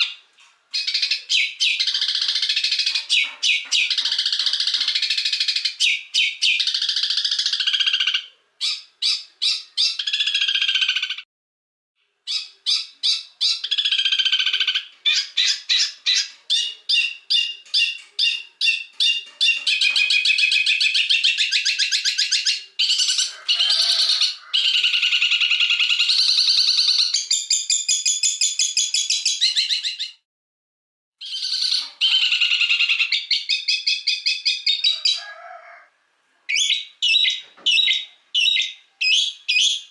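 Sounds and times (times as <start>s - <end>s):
songbird chattering and trilling: 0.0s - 11.2s, 12.3s - 30.2s, 31.2s - 35.2s, 36.5s - 39.9s.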